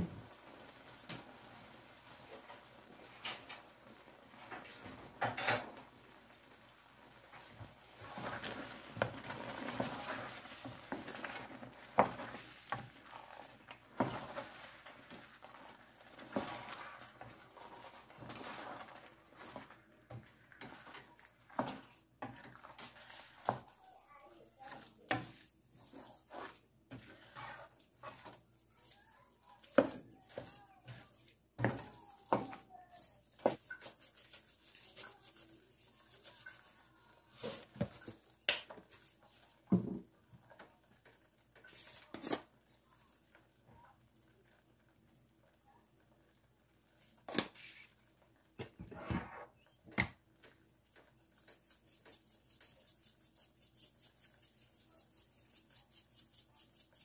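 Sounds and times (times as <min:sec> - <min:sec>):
spatula scraping rice in pan: 0:00.4 - 0:39.6, 0:47.0 - 0:48.0, 0:50.9 - 0:57.0.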